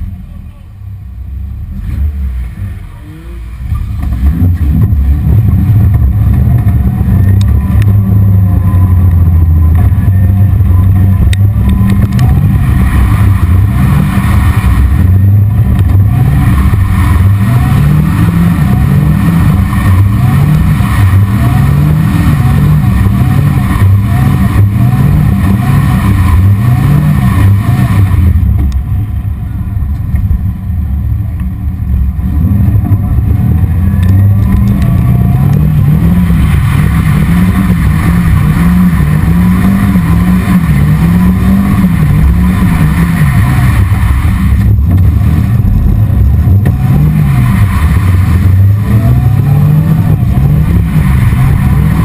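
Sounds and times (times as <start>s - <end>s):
sports car engine revving: 0.0s - 52.0s.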